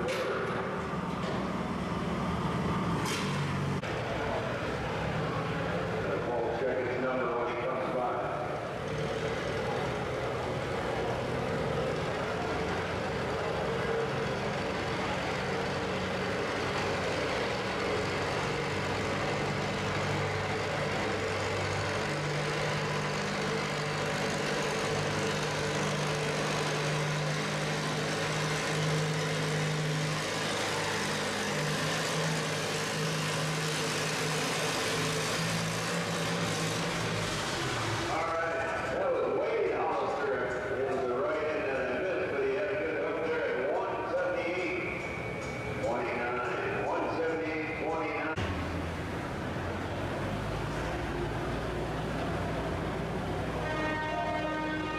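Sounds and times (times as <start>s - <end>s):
tractor engines idling: 0.0s - 54.9s.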